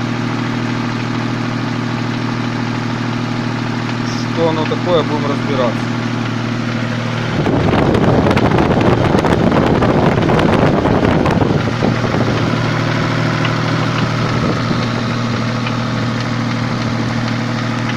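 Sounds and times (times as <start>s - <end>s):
engine idling: 0.0s - 17.9s
engine tapping knock: 0.0s - 17.9s.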